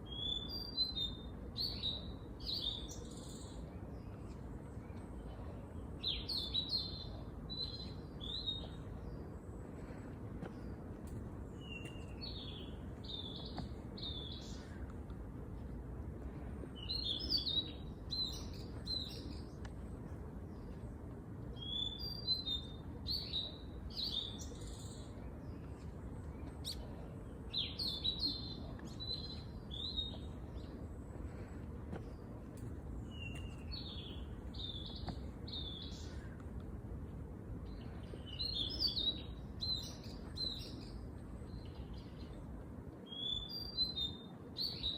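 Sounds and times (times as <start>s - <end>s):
songbird chirping: 0.0s - 44.9s.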